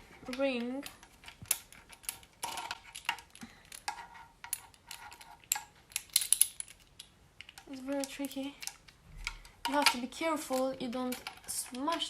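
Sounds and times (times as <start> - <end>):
plastic parts clicking: 0.3 - 12.0.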